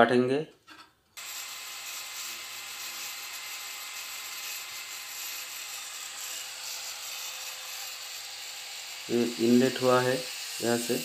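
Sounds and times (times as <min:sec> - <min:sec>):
angle grinder cutting plastic pipe: 0:00.7 - 0:11.0.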